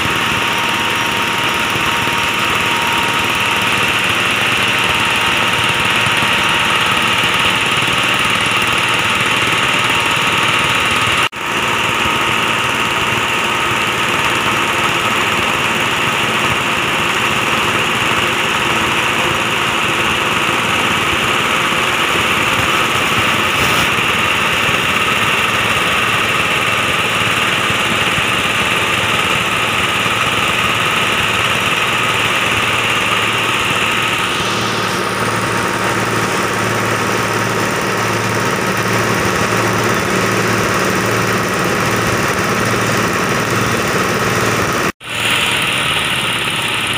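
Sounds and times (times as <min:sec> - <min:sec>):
grinding machine running: 0:00.0 - 0:46.9.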